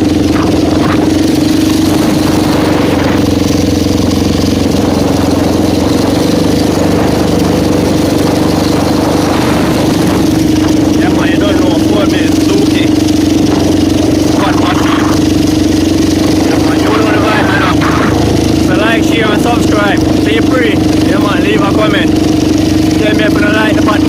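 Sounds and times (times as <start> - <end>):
quad bike engine idling: 0.0 - 24.0.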